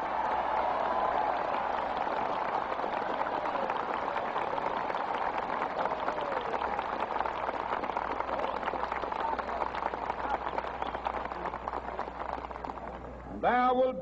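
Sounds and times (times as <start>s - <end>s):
large crowd applauding: 0.0s - 13.2s.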